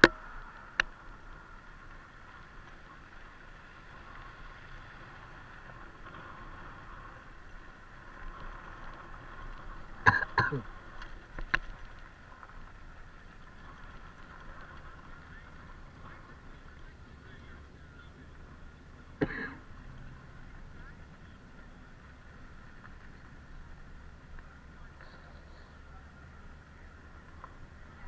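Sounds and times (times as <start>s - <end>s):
motorcycle running at low speed: 0.0s - 28.0s
tyres rolling over gravel: 0.0s - 28.0s.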